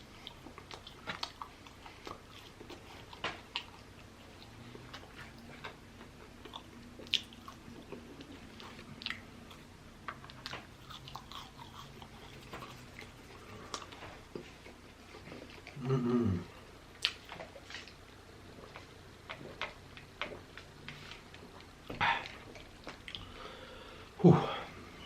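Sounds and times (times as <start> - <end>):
person chewing food: 0.0 - 23.4.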